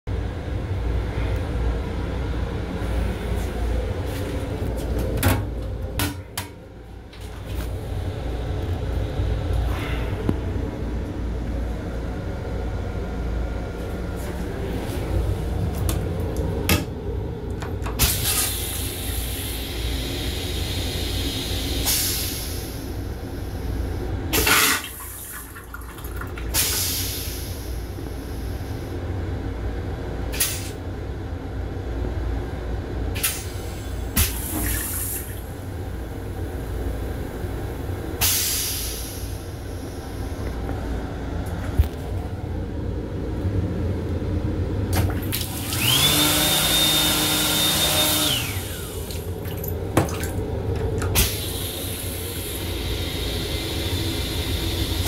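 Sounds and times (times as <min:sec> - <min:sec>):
moving train rumble: 0:00.1 - 0:46.1.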